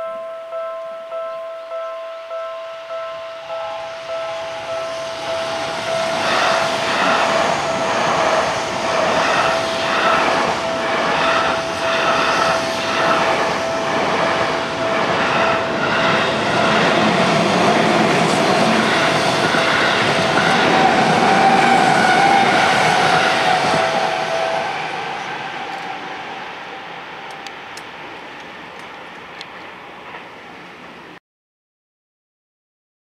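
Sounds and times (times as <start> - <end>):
steady high tone: 0.0 - 28.7.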